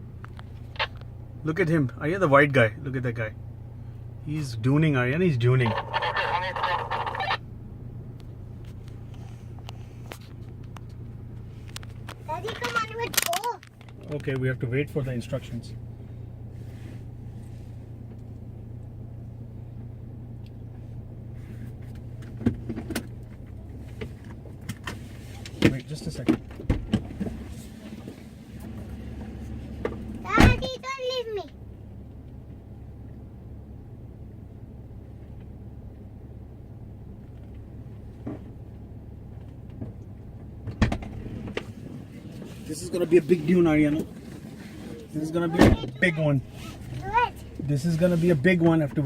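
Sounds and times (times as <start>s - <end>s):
vehicle engine idling: 0.0s - 49.0s.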